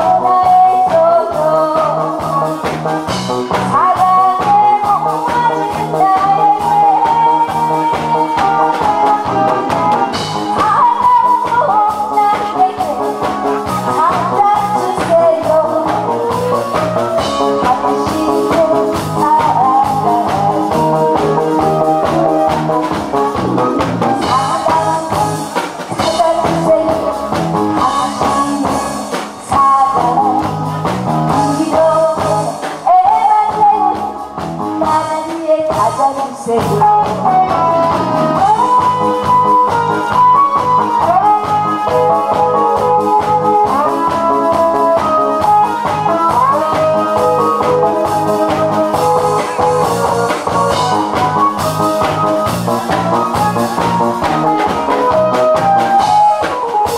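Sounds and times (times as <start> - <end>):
instrumental accompaniment: 0.0 - 56.9
woman singing into microphone: 0.0 - 56.9.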